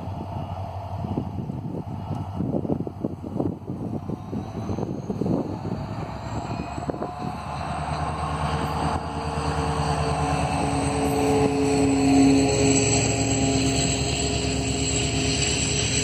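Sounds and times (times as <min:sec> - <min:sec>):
diesel locomotive engine under throttle: 0:00.0 - 0:16.0
passenger coaches rolling by: 0:00.0 - 0:16.0
wind buffeting microphone: 0:00.0 - 0:16.0.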